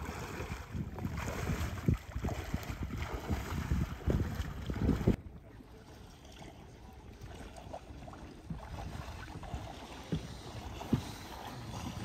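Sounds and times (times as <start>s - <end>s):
wind rumbling on microphone: 0.0s - 5.4s, 7.7s - 12.0s.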